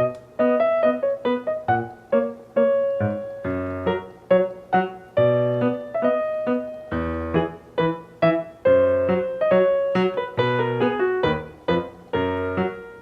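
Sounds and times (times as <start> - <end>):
light piano melody: 0.0 - 13.0.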